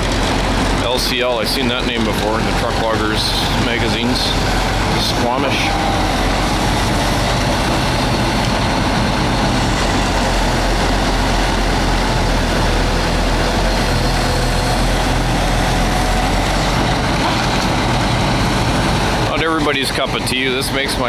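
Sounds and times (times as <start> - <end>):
heavy machine engine idling: 0.0 - 21.0.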